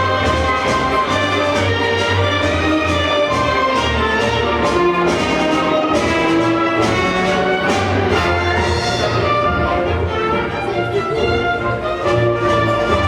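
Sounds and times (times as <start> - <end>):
orchestral strings and brass: 0.0 - 13.0.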